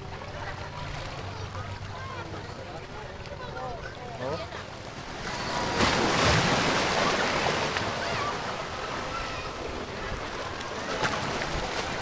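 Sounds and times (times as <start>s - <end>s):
surf washing against rocks: 0.0s - 12.0s.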